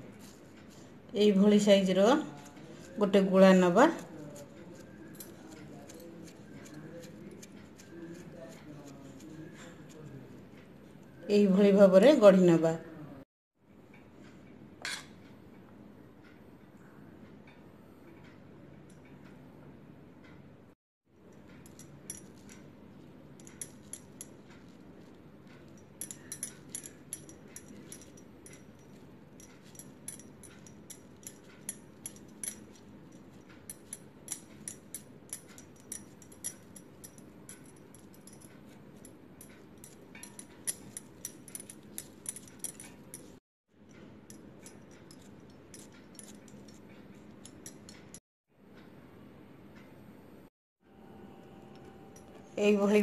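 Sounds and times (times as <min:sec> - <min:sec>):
low room hum: 0:00.0 - 0:53.0.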